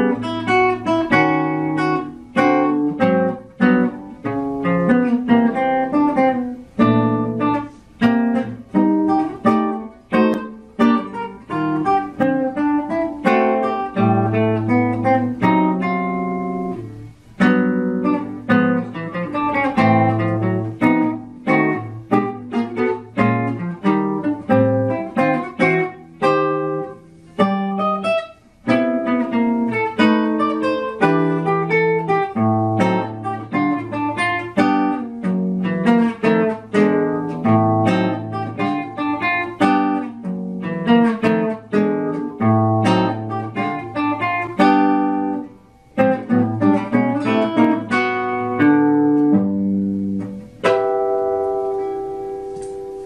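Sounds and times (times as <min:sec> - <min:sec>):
acoustic guitar jazz swing: 0:00.0 - 0:53.0.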